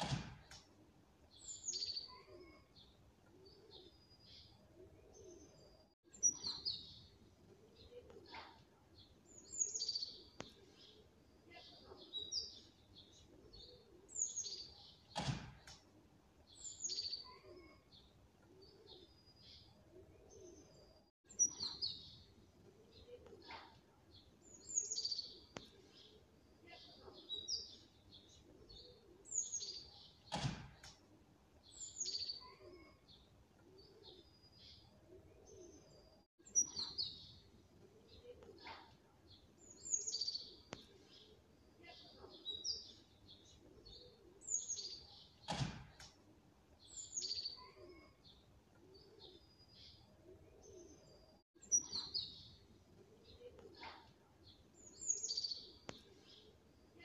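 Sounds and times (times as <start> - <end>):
small birds chirping: 0.4 - 57.0.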